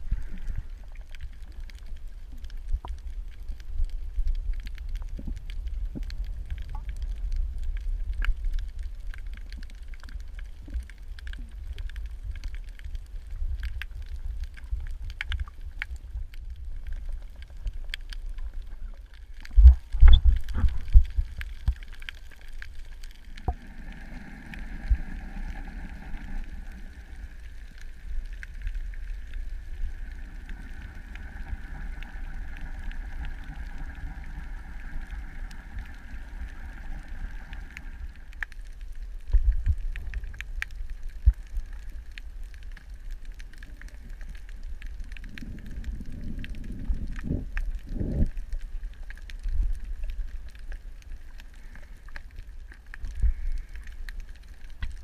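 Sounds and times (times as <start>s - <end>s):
underwater low rumble: 0.0s - 55.0s
sharp crackling clicks: 0.2s - 55.0s.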